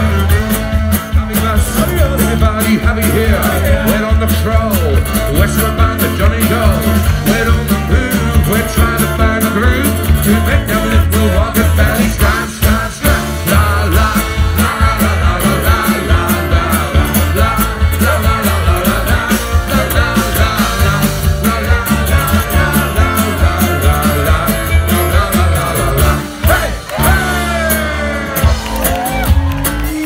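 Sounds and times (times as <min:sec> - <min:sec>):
drum beat: 0:00.0 - 0:30.0
strummed acoustic guitar: 0:00.0 - 0:30.0.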